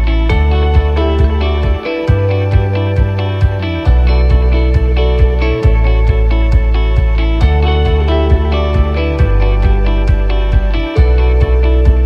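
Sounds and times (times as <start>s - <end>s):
guitar-led music with bass: 0.0s - 12.0s.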